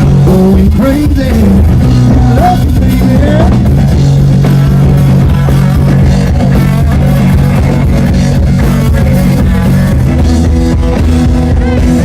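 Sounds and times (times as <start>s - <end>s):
country-rock band playing: 0.0s - 12.0s
electric guitar: 0.0s - 12.0s.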